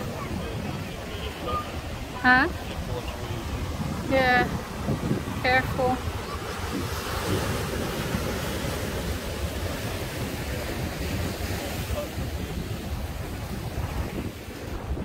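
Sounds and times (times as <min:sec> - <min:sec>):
surf washing over rock: 0:00.0 - 0:15.0
wind buffeting microphone: 0:00.0 - 0:15.0.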